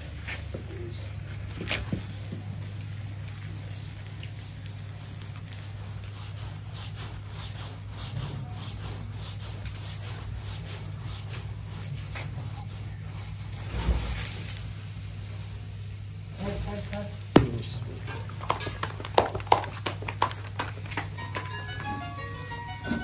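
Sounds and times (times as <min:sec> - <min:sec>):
low steady hum: 0:00.0 - 0:23.0
rolling pin swishing over dough: 0:00.2 - 0:14.7, 0:18.5 - 0:23.0.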